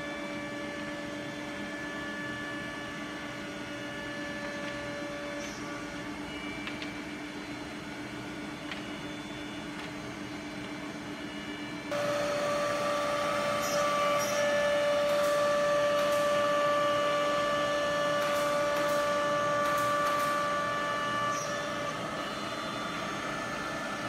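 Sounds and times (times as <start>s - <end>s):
hum of motors and dust extraction: 0.0s - 24.0s
machine whine: 0.0s - 24.0s.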